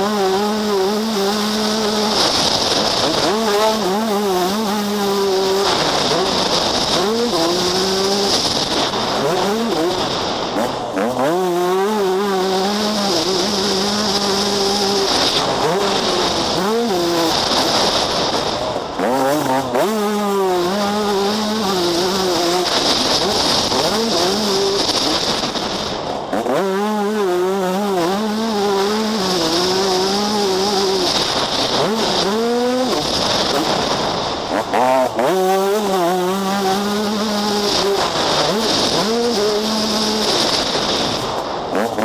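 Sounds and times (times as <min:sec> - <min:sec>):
two-stroke engine revving: 0:00.0 - 0:42.0.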